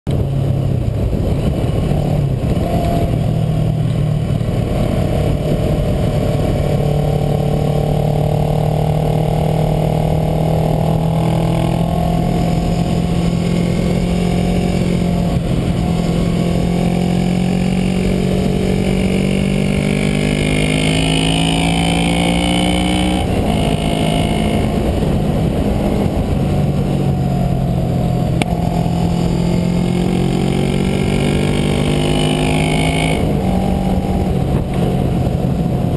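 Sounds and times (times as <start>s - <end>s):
motorcycle engine running: 0.1s - 35.9s
wind rush on microphone: 0.1s - 35.9s.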